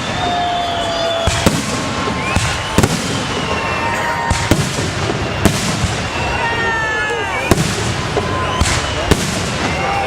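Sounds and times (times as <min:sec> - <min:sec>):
fireworks bangs: 0:00.0 - 0:10.0
fireworks crackle: 0:00.0 - 0:10.0
fireworks whistling: 0:00.0 - 0:10.0.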